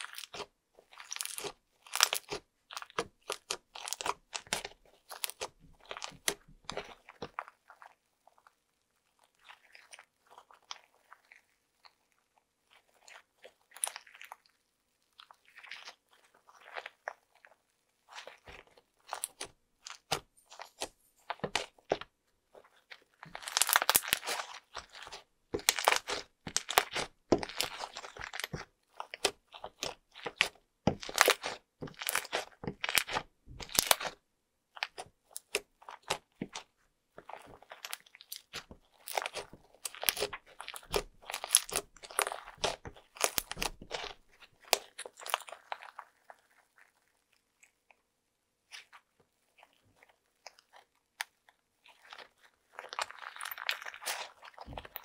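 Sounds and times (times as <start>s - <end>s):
slime crackling and popping: 0.0s - 8.5s, 15.2s - 34.2s, 34.8s - 47.8s, 48.7s - 55.0s.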